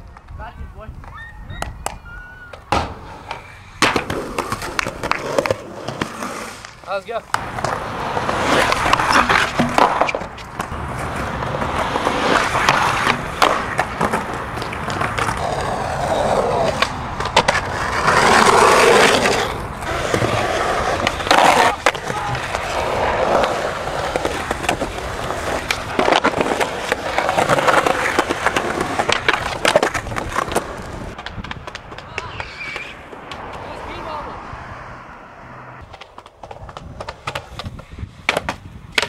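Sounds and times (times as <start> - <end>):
skateboard wheels rolling on concrete: 0.0 - 39.0
skateboard clacks popping and landing: 1.0 - 33.6, 35.8 - 39.0
skateboard trucks grinding on ledge: 2.5 - 39.0.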